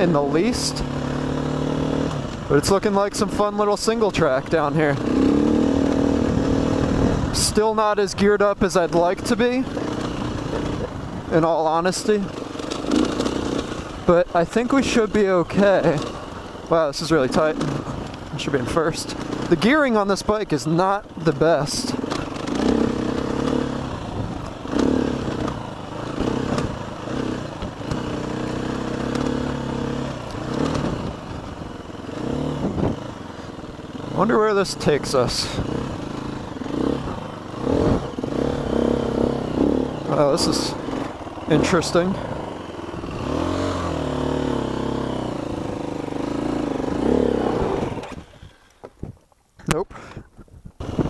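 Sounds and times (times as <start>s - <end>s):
dirt bike engine revving: 0.0s - 48.6s, 50.8s - 51.0s.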